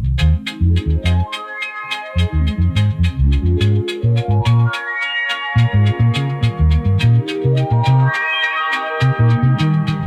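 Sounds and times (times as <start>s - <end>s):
dub reggae music: 0.0s - 10.0s.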